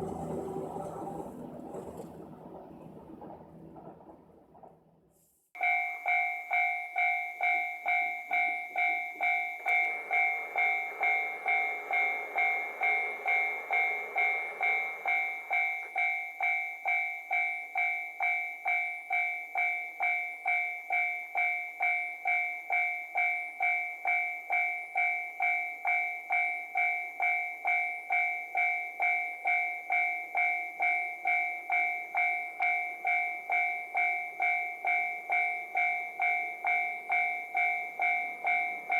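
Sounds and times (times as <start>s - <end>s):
level crossing bell ringing: 5.6s - 38.9s.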